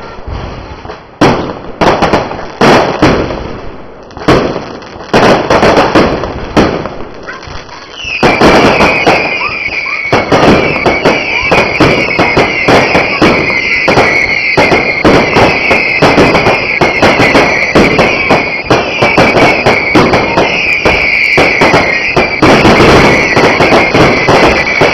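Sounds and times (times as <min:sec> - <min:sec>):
fireworks banging and crackling: 0:00.0 - 0:24.9.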